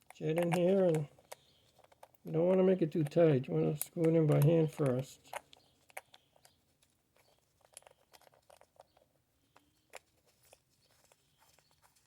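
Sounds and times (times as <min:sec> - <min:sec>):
faint clicks of metal parts: 0:00.0 - 0:12.0.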